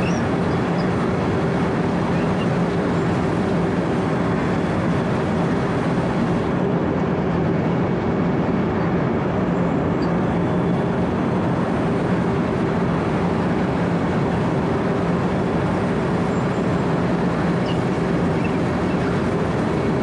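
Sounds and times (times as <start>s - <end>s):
milling machine droning: 0.0s - 6.8s, 7.5s - 20.0s.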